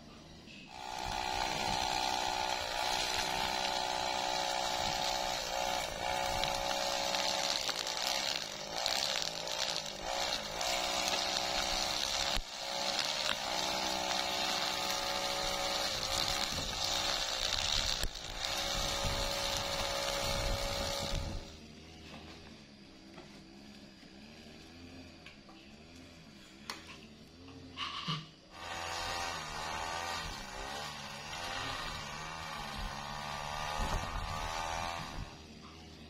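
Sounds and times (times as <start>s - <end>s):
brush cutter engine running: 0.7s - 27.4s, 28.5s - 36.0s.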